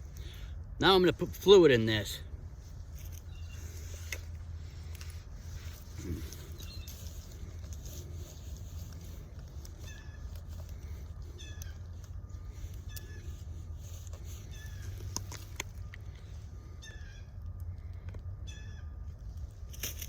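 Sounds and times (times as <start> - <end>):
steady low hum: 0.0 - 20.0
bird calling: 3.0 - 19.1.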